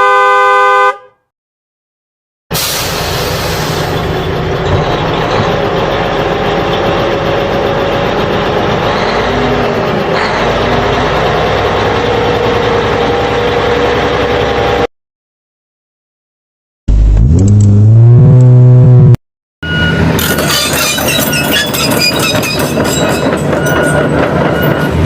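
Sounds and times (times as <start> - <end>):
heavy vehicle engine rumbling: 2.5 - 14.9, 16.9 - 25.0.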